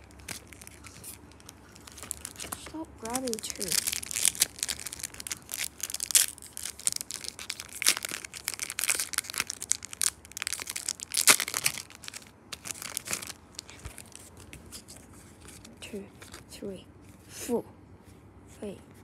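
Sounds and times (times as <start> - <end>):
foil wrapper crinkling and tearing: 0.0 - 16.5.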